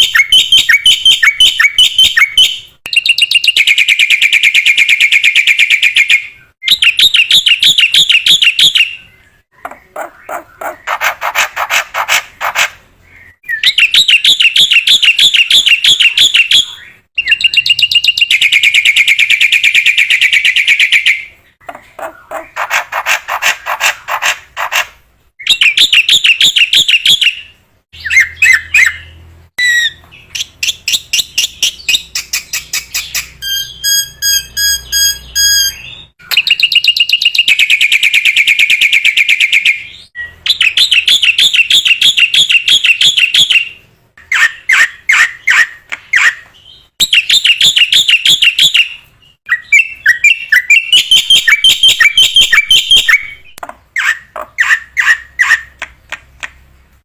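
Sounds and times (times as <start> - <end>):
bird chattering song: 0.0 - 56.8.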